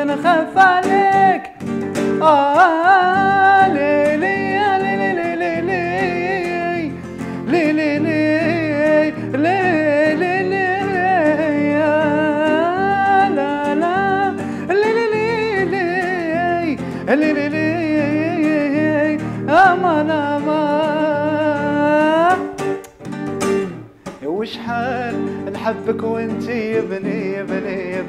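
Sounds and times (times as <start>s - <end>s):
man singing ornamented lines: 0.0s - 22.8s, 24.1s - 28.0s
strummed acoustic guitar: 0.0s - 28.0s.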